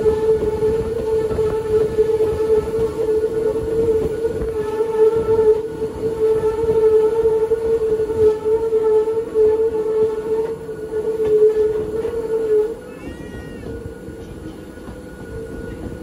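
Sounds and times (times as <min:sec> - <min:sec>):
electric train motor whine: 0:00.0 - 0:16.0
wheels rumbling on track: 0:00.0 - 0:16.0.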